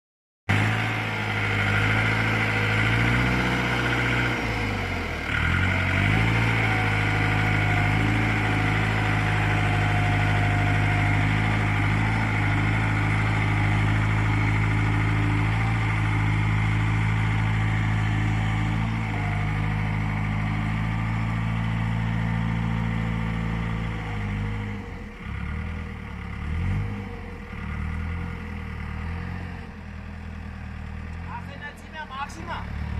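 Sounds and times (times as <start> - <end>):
tractor engine running: 0.5 - 32.9.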